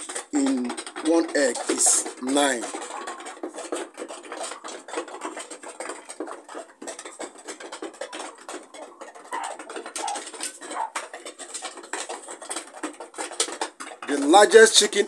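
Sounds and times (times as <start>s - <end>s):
chicken calls: 0.0s - 15.0s
chickens pecking and scratching: 0.0s - 15.0s.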